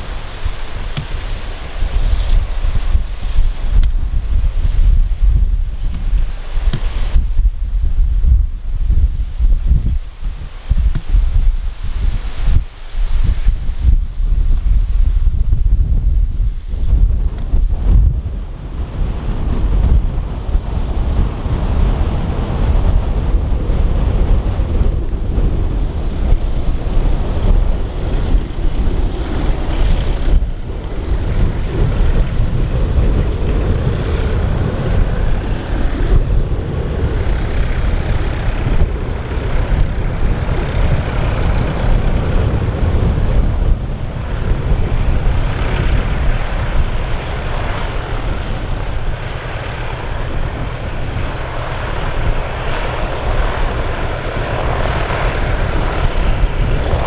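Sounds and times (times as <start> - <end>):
aircraft piston engines taxiing: 0.0 - 7.7, 16.5 - 57.0
wind rumbling on microphone: 0.0 - 57.0.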